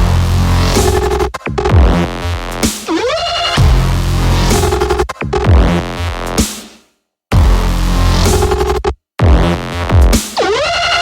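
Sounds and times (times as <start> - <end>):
electronic music with heavy bass: 0.0 - 6.7, 7.3 - 11.0.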